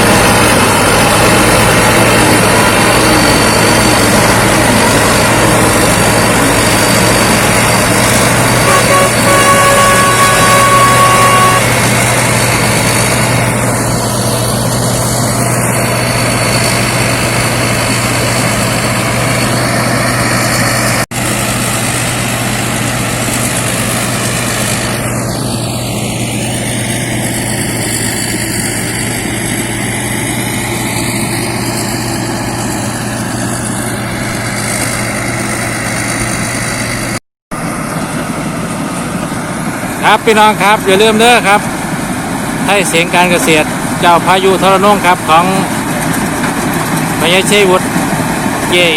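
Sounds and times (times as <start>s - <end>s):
combine harvester engine: 0.0s - 48.9s.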